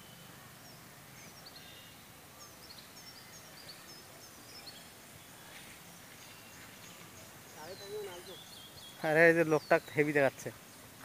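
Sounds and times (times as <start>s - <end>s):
faint outdoor background noise: 0.0s - 11.0s
small birds chirping: 0.0s - 11.0s.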